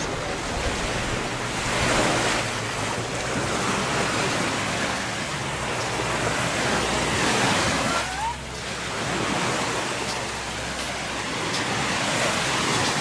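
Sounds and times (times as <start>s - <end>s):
surf washing onto beach: 0.0s - 13.0s
wind rumbling on microphone: 0.0s - 13.0s.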